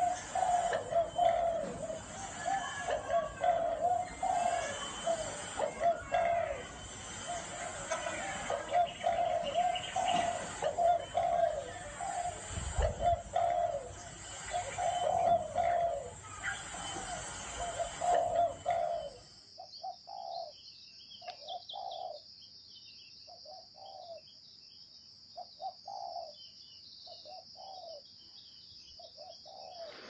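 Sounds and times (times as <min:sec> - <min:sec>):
dove cooing: 0:00.0 - 0:20.5, 0:21.5 - 0:22.2, 0:23.5 - 0:24.2, 0:25.6 - 0:26.4, 0:27.3 - 0:28.0, 0:29.2 - 0:30.0
faint high bird chirps: 0:00.0 - 0:30.0.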